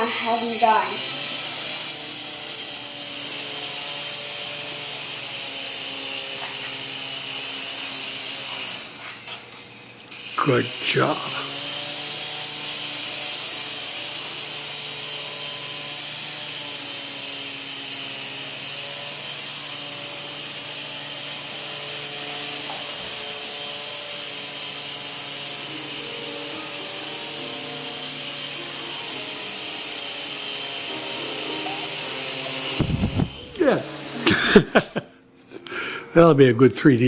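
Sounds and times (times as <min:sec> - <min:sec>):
rc helicopter motor whine: 0:00.0 - 0:34.8.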